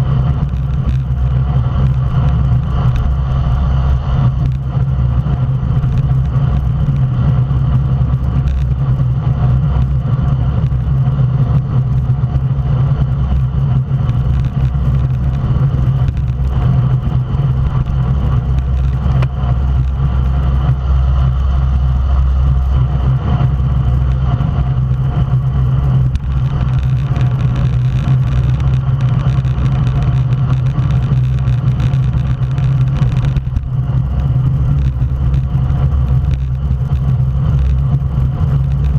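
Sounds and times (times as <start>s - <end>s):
road rumble: 0.0s - 38.9s
wind rush: 0.0s - 38.9s.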